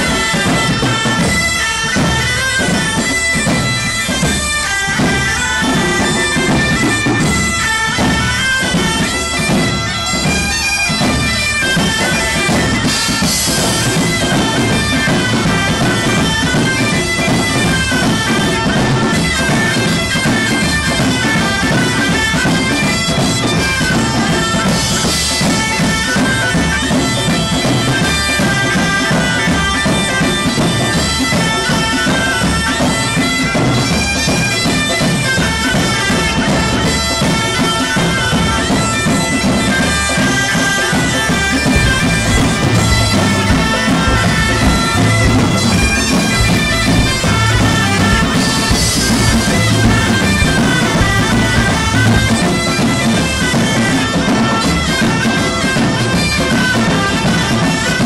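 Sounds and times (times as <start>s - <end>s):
steady drum beat: 0.0s - 58.0s
wind instrument melody: 0.0s - 58.0s.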